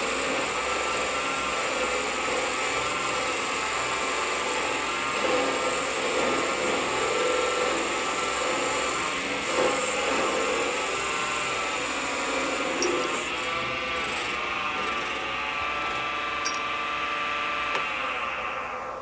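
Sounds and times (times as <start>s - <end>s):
lathe motor whine: 0.0s - 19.0s.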